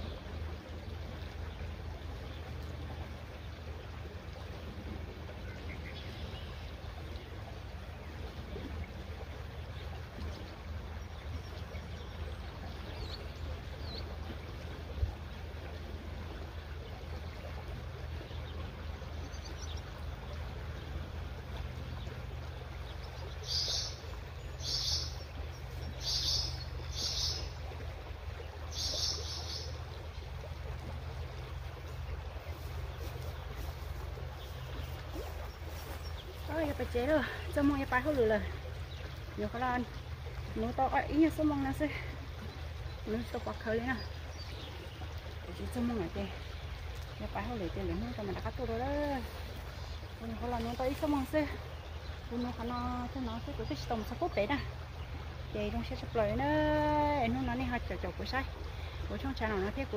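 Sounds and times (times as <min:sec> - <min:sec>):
creek trickling: 0:00.0 - 0:59.9.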